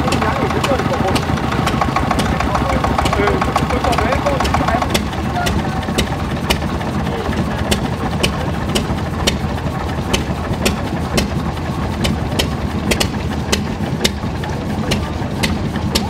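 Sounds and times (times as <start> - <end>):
old engine running: 0.0 - 16.0
sharp engine clicks: 0.0 - 16.0.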